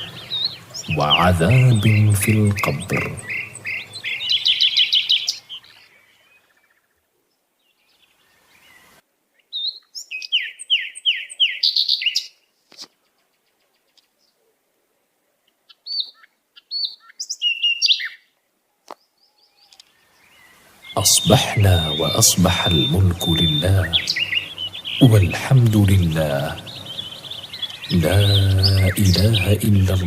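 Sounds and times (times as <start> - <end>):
songbird singing: 0.0 - 14.5, 15.3 - 30.0.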